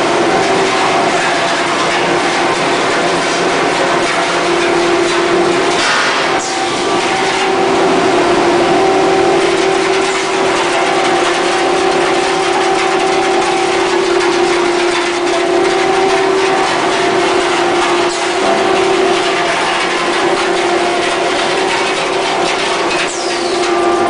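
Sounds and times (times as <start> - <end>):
blower fans rushing: 0.0 - 24.0
constant machine hum: 0.0 - 24.0.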